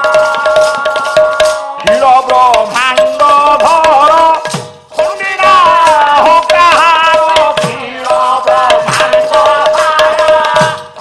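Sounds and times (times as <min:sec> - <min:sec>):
small hand cymbals rattling: 0:00.0 - 0:11.0
voices singing devotional melody: 0:00.0 - 0:11.0.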